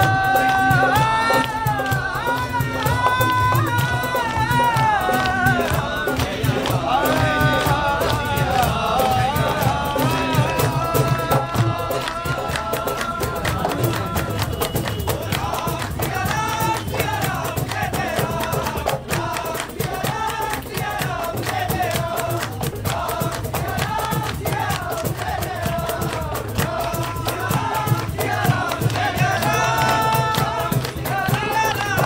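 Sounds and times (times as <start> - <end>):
group singing devotional song: 0.0 - 32.0
hand clapping: 0.0 - 32.0
hand drum: 0.0 - 32.0.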